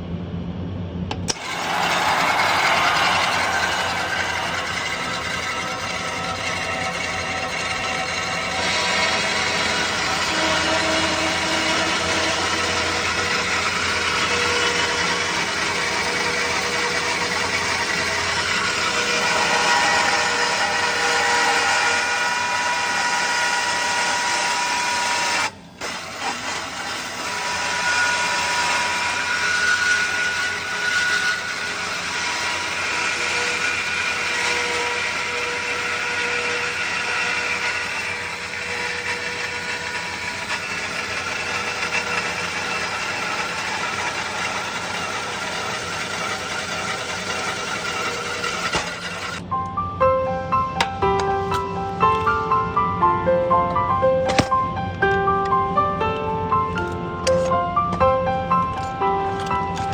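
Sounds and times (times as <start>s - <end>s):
electric power tool motor whining: 1.1s - 49.5s, 54.3s - 59.9s.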